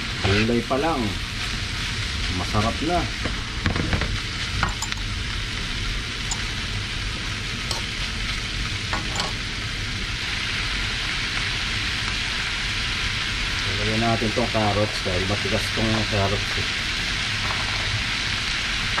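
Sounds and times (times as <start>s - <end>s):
meat sizzling in a wok: 0.0s - 19.0s.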